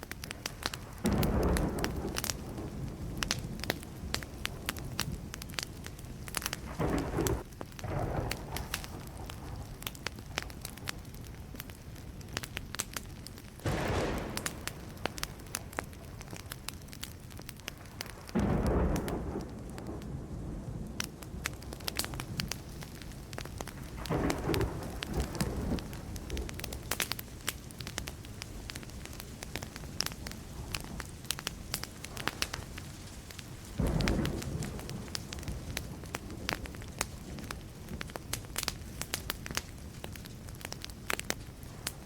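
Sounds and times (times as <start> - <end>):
campfire crackling and popping: 0.0 - 42.0
thunder rumbling: 0.4 - 11.9, 13.6 - 42.0.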